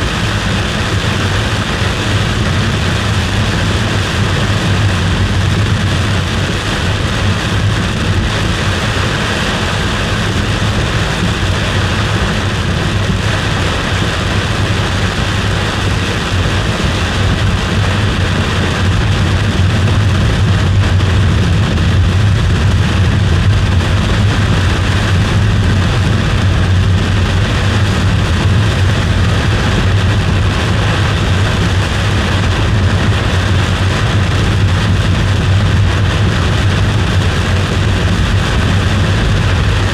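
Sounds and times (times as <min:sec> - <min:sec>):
car driving on road interior: 0:00.0 - 0:39.9.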